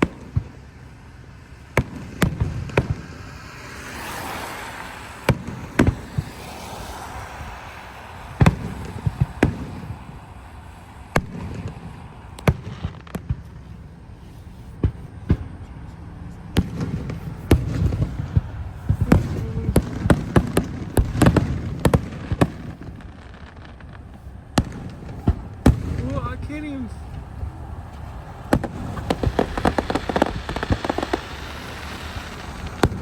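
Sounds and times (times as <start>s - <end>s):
fireworks banging: 0.0s - 33.0s
low background noise: 0.0s - 33.0s.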